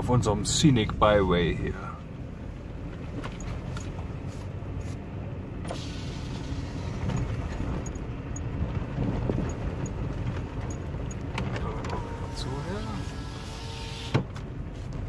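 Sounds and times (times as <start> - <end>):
tyres and engine rumbling: 0.0 - 15.0.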